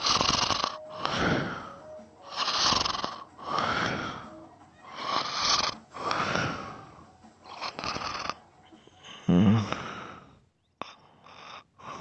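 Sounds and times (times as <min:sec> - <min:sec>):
person snoring: 0:00.0 - 0:06.9, 0:07.5 - 0:08.4, 0:09.0 - 0:12.0.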